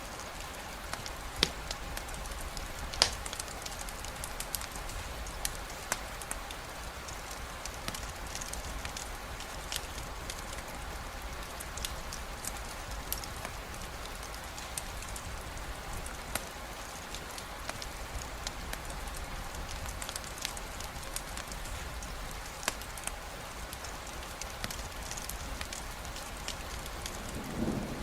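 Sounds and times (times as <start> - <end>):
raindrops clicking close by: 0.0 - 28.0
steady rain hiss: 0.0 - 28.0.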